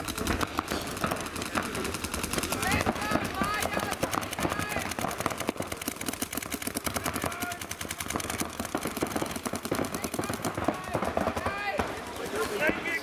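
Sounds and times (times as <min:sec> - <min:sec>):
paintball guns firing rapidly: 0:00.0 - 0:13.0.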